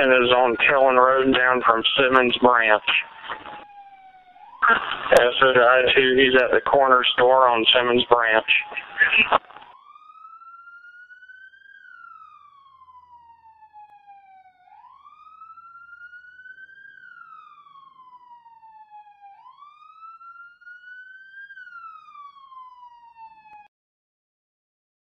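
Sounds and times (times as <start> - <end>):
emergency siren wailing: 0.0 - 23.7.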